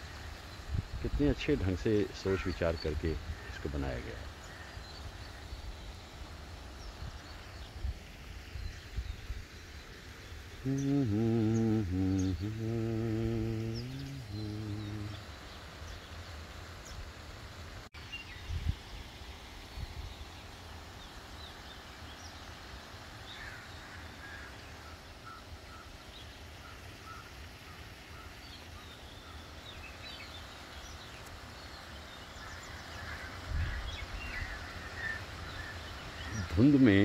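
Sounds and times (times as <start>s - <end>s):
faint bird calls: 0.0s - 17.0s, 19.9s - 37.0s.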